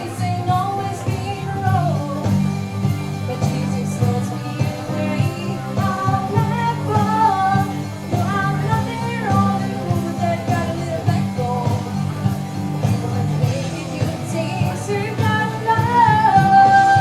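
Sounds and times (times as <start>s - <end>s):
children singing country song: 0.0s - 17.0s
instrumental accompaniment: 0.0s - 17.0s.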